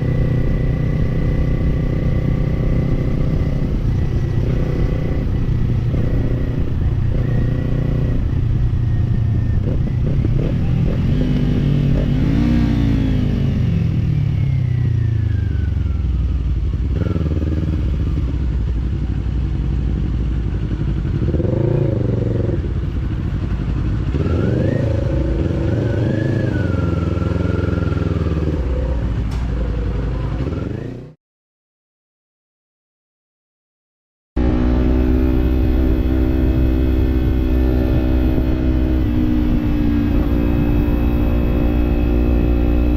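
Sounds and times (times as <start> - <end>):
motorcycle engine revving: 0.0 - 31.2, 34.4 - 42.9.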